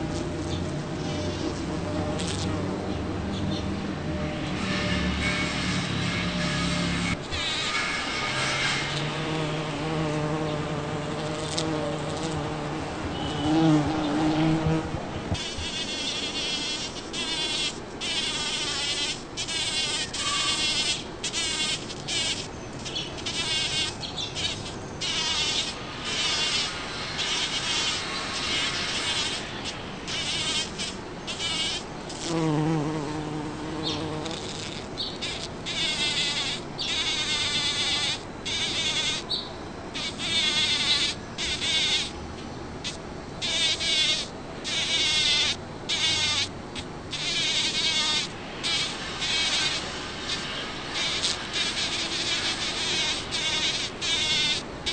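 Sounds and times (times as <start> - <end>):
bumblebee buzzing: 0.0 - 42.2, 42.8 - 54.9.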